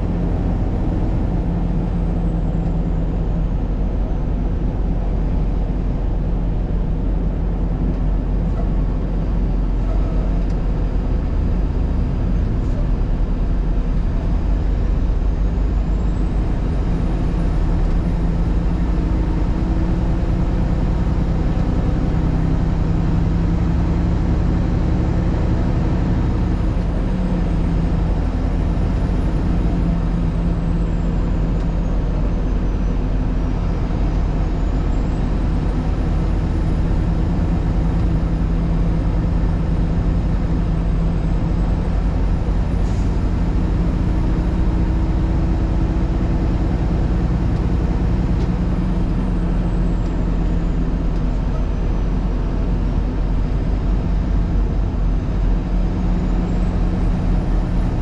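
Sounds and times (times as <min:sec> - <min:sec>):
vehicle engine hum: 0:00.0 - 0:58.0.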